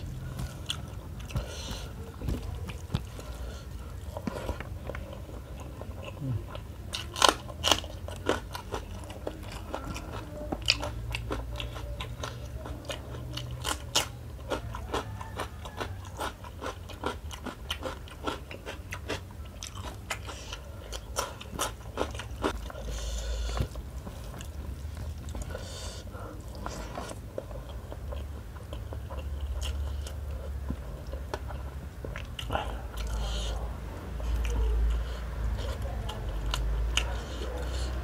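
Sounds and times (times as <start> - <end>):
crunching and chewing: 0.0 - 38.0.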